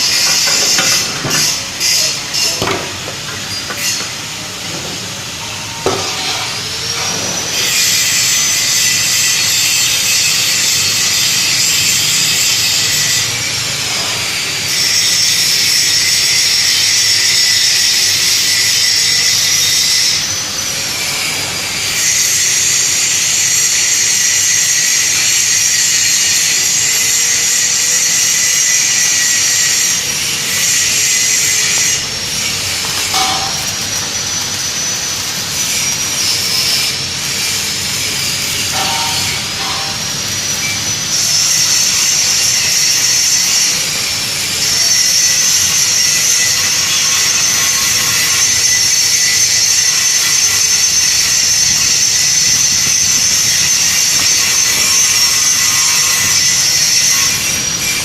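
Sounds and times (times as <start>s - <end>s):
power tool hissing on steel: 0.0s - 58.0s.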